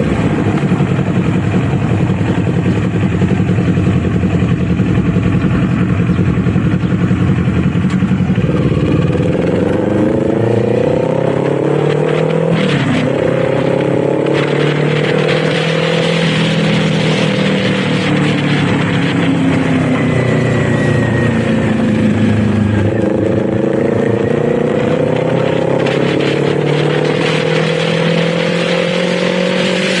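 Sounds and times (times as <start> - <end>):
motorcycle engine accelerating: 0.0 - 30.0
wind noise on microphone: 0.0 - 30.0.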